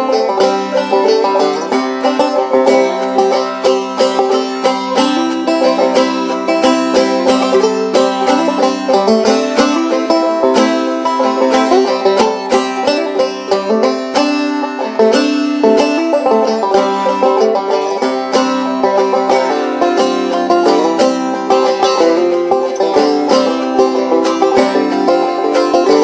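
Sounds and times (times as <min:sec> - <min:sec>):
banjo picking fast runs: 0:00.0 - 0:26.0
bluegrass band music: 0:00.0 - 0:26.0.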